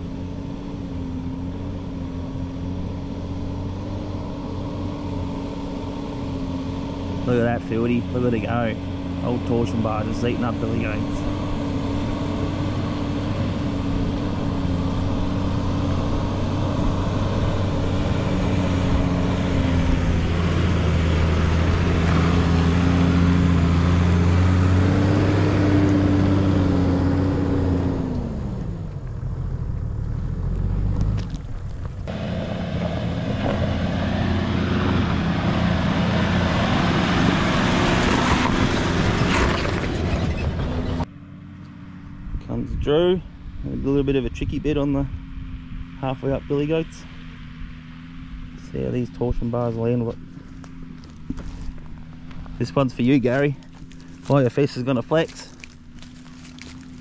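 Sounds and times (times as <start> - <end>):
engine working hard uphill: 0.0 - 57.0
vehicle driving on dirt track: 0.0 - 57.0.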